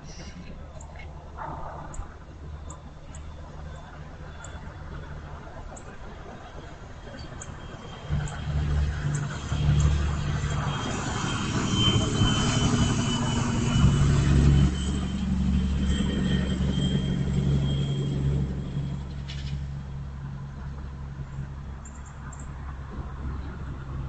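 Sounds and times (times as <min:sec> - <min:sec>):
faint high whine: 0:00.0 - 0:23.8
vehicle engine rumbling: 0:00.0 - 0:24.0.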